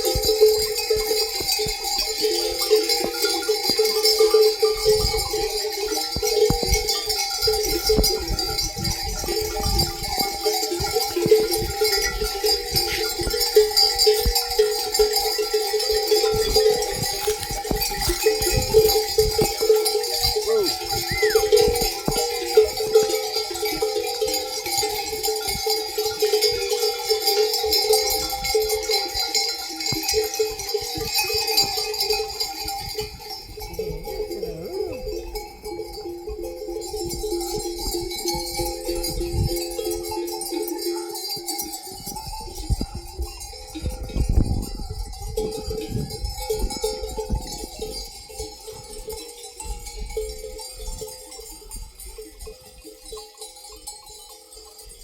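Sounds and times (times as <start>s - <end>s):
livestock bells clanking: 0.0s - 55.0s.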